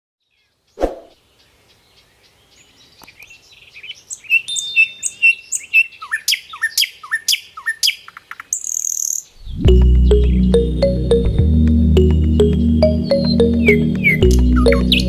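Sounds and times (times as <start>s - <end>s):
birds chirping and singing: 0.3s - 10.7s, 12.0s - 15.0s.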